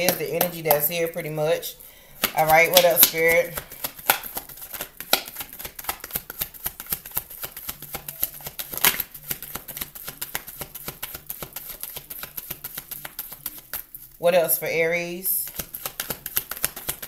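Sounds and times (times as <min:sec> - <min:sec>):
cards being shuffled: 0:02.1 - 0:14.2, 0:15.4 - 0:17.0.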